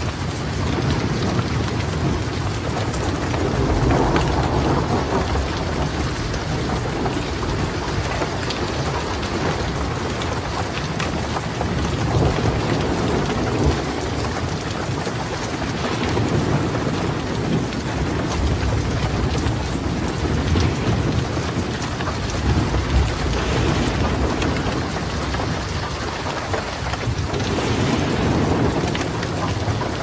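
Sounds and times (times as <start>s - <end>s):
steady rain falling: 0.0s - 30.0s
thunder rumbling: 0.0s - 30.0s.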